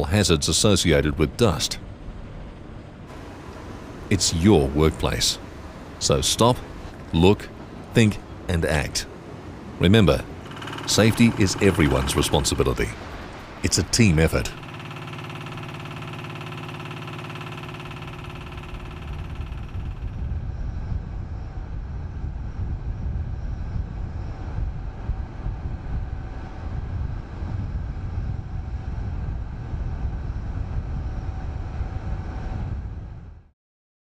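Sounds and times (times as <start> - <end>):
steady mechanical hum: 0.0 - 33.4.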